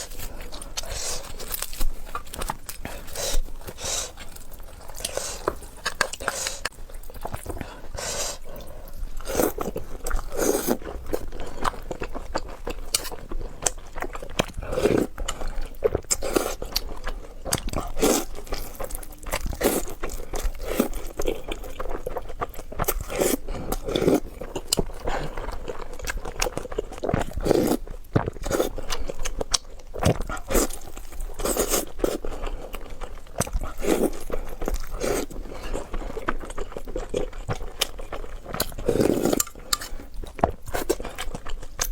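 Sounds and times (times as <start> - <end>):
person biting and chewing food: 0.0 - 41.9.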